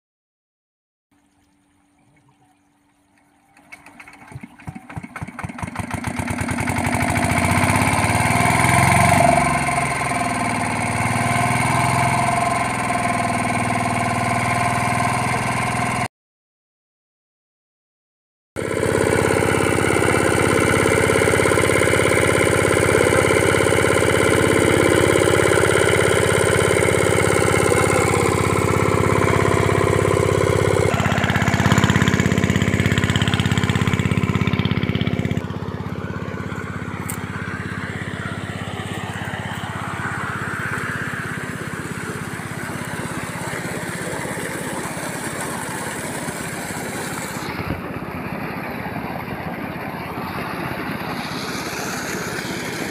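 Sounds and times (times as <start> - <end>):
diesel engine running: 3.3 - 16.1, 18.6 - 52.9.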